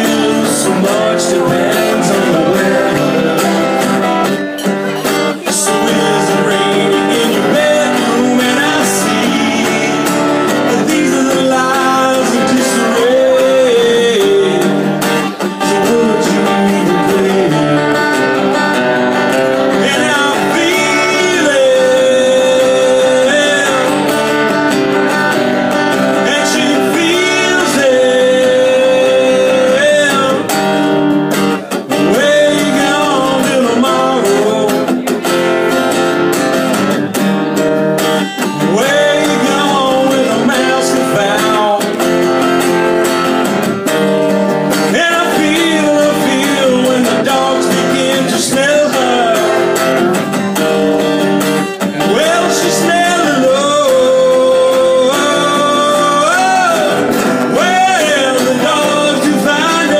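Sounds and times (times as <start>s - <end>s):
man singing into microphone: 0.0s - 36.0s, 38.3s - 42.8s, 44.7s - 50.4s, 51.6s - 59.9s
guitars: 0.0s - 59.9s
live band playing: 0.0s - 59.9s.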